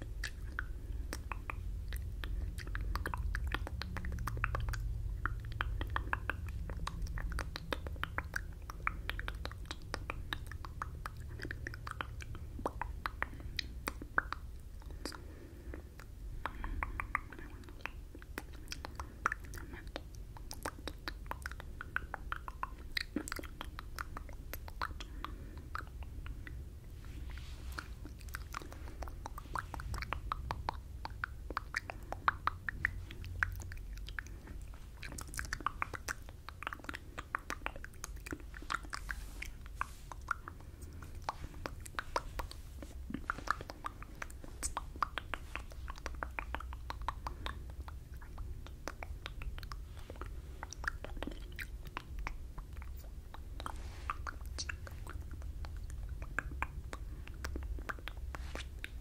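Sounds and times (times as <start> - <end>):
steady low hum: 0.0 - 59.0
wet lip and tongue clicks: 0.0 - 59.0.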